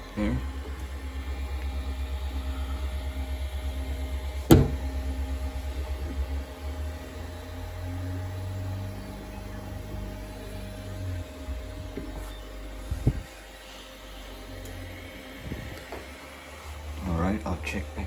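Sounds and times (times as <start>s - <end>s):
printer stepper motors humming: 0.0s - 18.0s.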